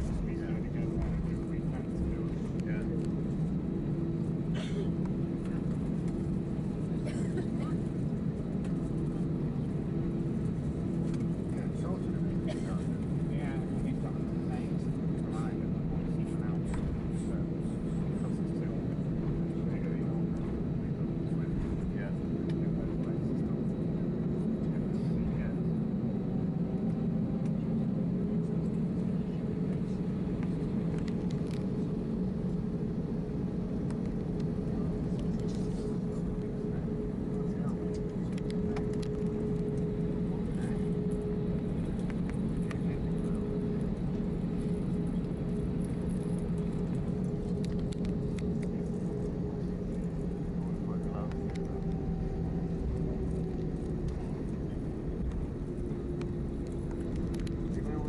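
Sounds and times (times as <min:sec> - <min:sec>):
two-tone engine hum: 0:00.0 - 0:58.0.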